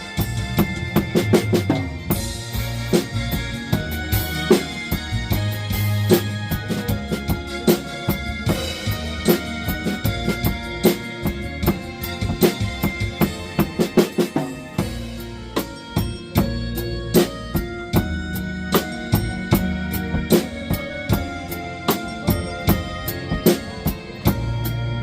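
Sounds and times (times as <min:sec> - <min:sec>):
blues backing track: 0:00.0 - 0:25.0
drum kit playing: 0:00.0 - 0:25.0.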